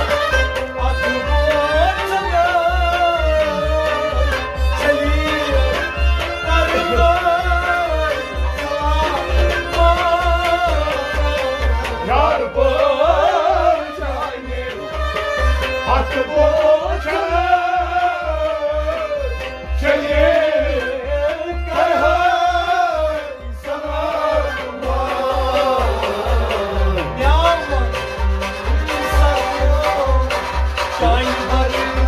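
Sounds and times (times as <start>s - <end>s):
hand drum beat: 0.0s - 32.0s
harmonium: 0.0s - 32.0s
men singing: 0.0s - 32.0s.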